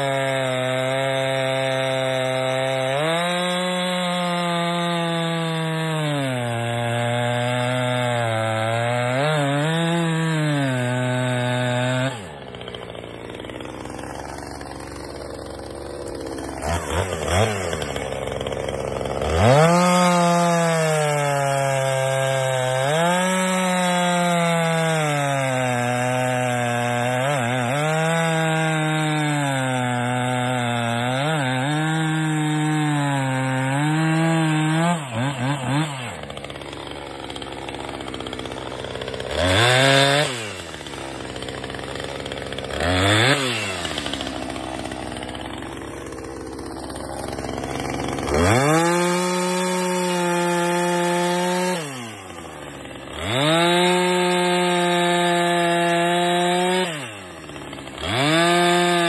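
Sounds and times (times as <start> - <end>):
chainsaw cutting log: 0.0 - 59.0
chainsaw idling: 0.0 - 59.0
chainsaw throttle blips: 0.0 - 59.0.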